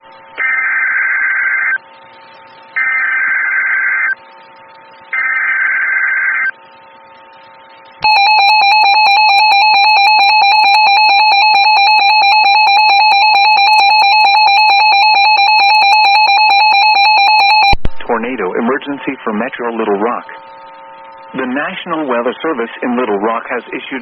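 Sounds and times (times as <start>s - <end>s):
steady warning alarm tone: 2.6s - 23.5s.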